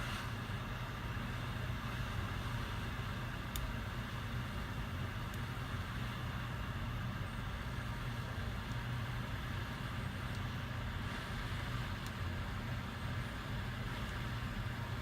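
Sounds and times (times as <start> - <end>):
fan humming and hissing: 0.0 - 15.0.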